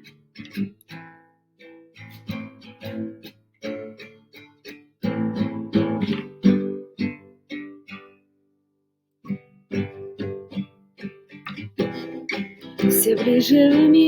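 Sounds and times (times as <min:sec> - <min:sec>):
acoustic guitar strumming: 0:00.0 - 0:08.3, 0:09.2 - 0:14.0.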